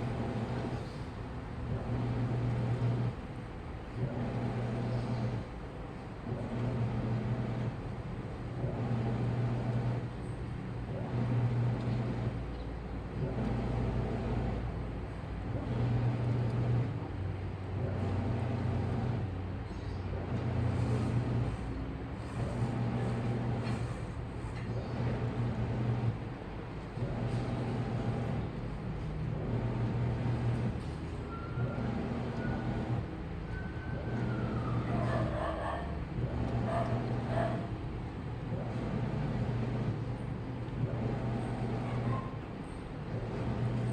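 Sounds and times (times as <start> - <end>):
washing machine churning: 0.0 - 43.9.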